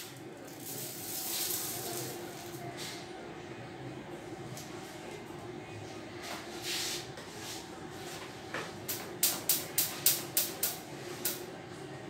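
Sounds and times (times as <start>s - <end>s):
steady low hum: 1.8s - 12.0s.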